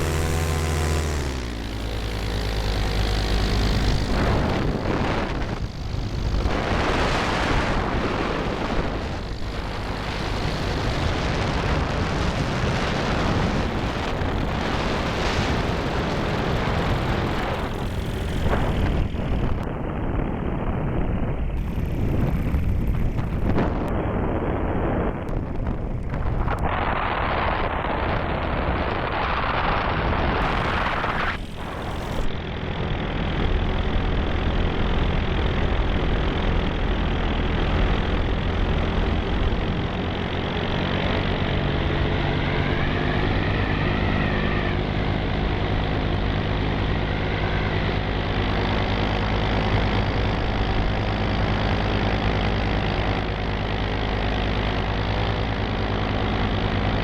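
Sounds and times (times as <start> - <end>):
engine running steadily: 0.0 - 57.0
wind noise rush: 0.0 - 57.0.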